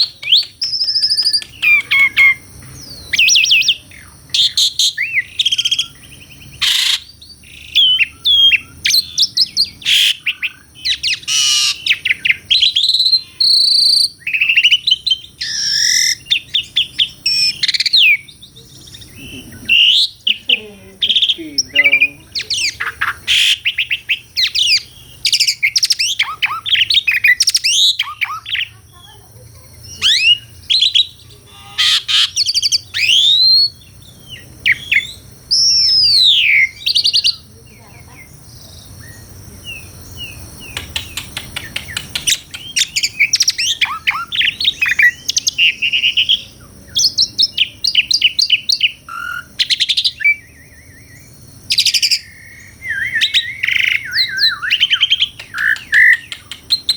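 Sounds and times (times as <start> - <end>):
starling singing: 0.0 - 56.9.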